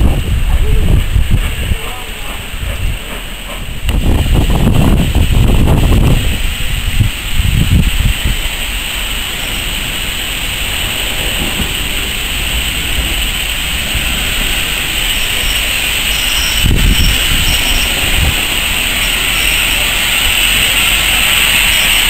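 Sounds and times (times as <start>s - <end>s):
steam locomotive rolling past: 0.0s - 22.0s.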